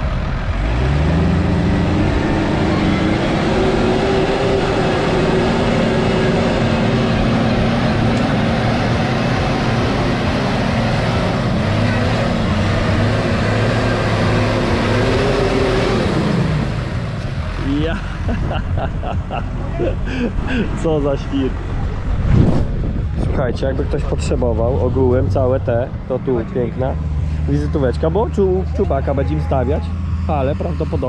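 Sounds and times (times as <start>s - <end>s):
tractor engine revving: 0.0s - 31.0s.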